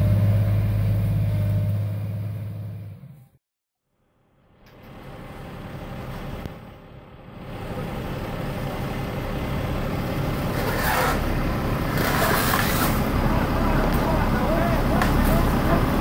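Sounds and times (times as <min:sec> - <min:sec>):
diesel truck engine under load: 0:00.0 - 0:03.4, 0:04.5 - 0:16.0.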